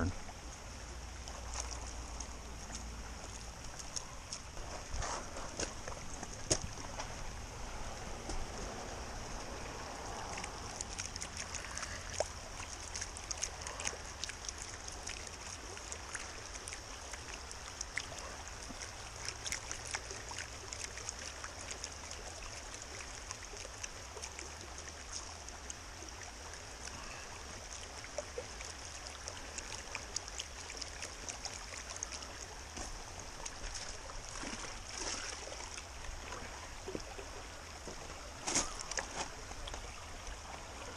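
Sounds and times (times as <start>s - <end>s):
creek running over stones: 0.0s - 40.9s.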